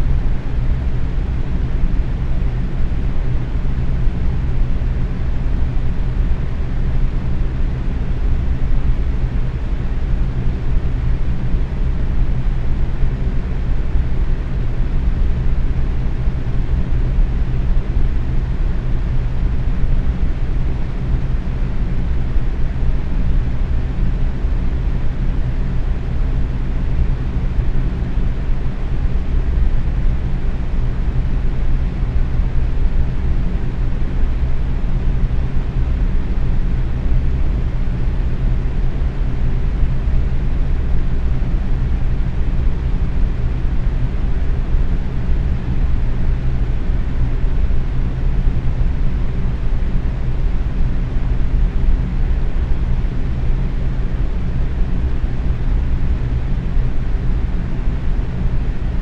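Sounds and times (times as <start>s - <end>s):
box fan running: 0.0s - 59.0s.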